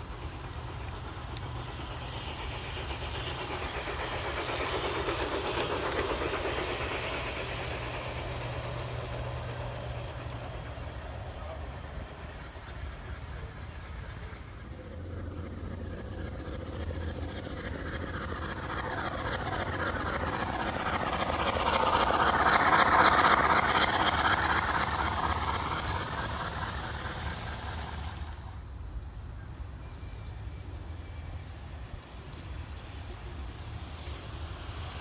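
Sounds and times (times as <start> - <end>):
model train rolling on track: 0.0 - 35.0.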